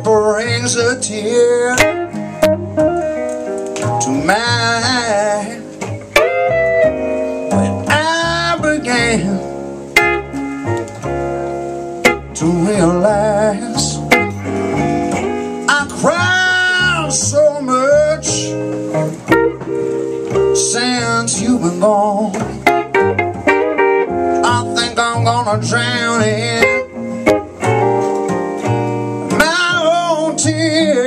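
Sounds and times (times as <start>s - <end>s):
electric guitar: 0.0s - 31.0s
man singing blues: 0.0s - 31.0s
plucked double bass: 0.0s - 31.0s.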